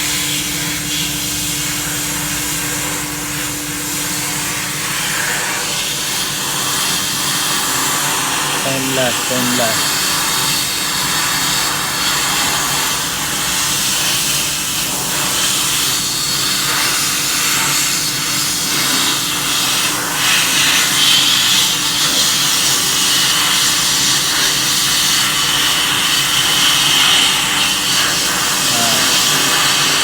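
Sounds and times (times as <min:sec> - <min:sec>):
sandblaster air jet hissing: 0:04.0 - 0:30.0.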